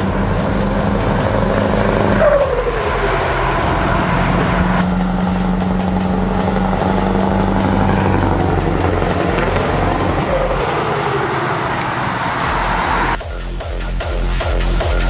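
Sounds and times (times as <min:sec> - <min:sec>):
truck diesel engine: 0:00.0 - 0:13.2.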